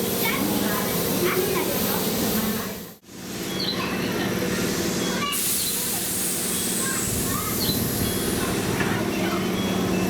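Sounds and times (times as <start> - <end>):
electric train humming: 0.0 - 5.2, 5.8 - 10.0.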